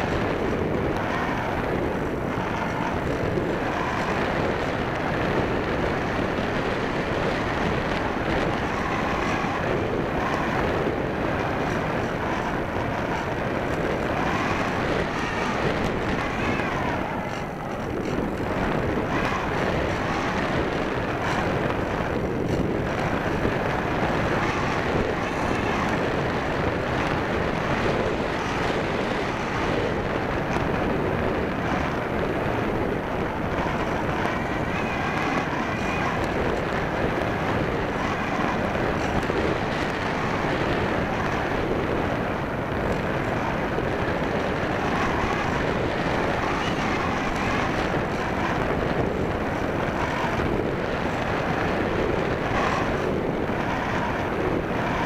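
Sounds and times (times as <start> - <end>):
rush of air over model glider: 0.0 - 55.0.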